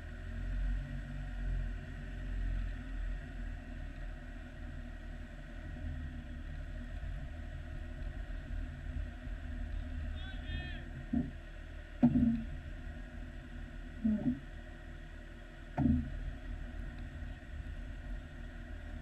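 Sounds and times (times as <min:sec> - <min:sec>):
engine running at low revs: 0:00.0 - 0:19.0.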